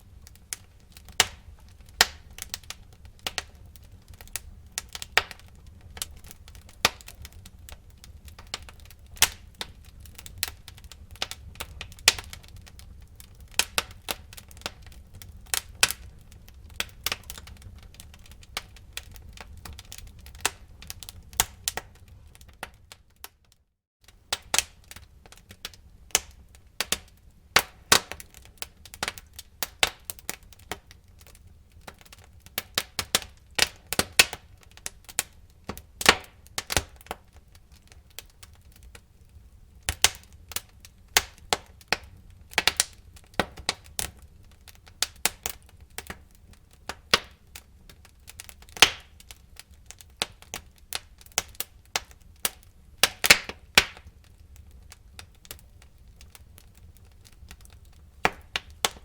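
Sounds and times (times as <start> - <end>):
low rumble of fire: 0.0 - 59.0
wood fire crackling and popping: 0.0 - 59.0.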